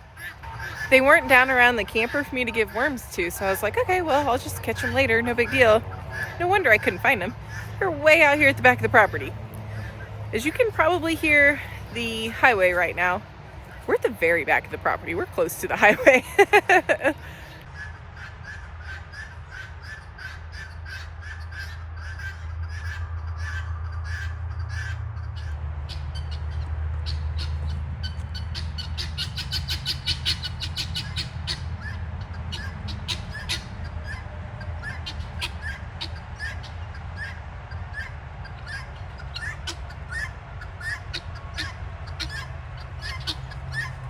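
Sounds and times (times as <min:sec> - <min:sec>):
guinea fowl calling: 0:00.0 - 0:13.0, 0:15.7 - 0:44.0
highway traffic rumble: 0:00.0 - 0:44.0.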